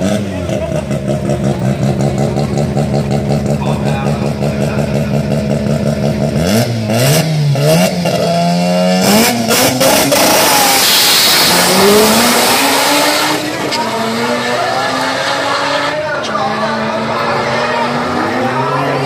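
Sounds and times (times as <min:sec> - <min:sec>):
drag car engine revving and accelerating: 0:00.0 - 0:19.0.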